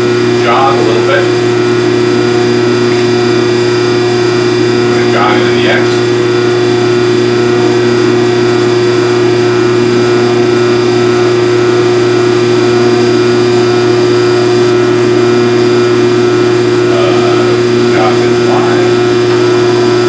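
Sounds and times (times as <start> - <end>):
phase converter humming: 0.0 - 20.0.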